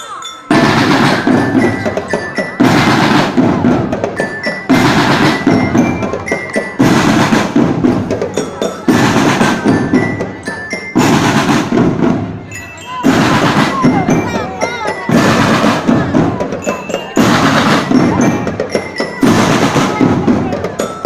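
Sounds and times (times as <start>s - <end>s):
glockenspiel melody: 0.0s - 21.0s
marching drums: 0.5s - 21.0s.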